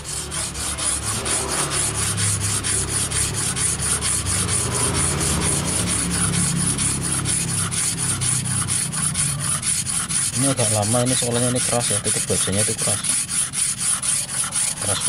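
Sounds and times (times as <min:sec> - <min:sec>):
blade rasping on whetstone: 0:00.0 - 0:15.0.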